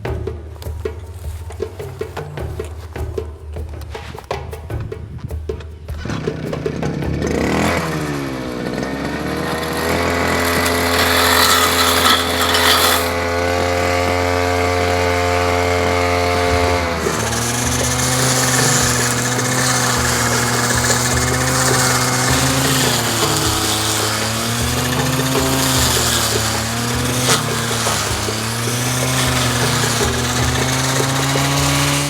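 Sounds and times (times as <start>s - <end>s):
brush cutter engine revving: 6.0s - 32.0s.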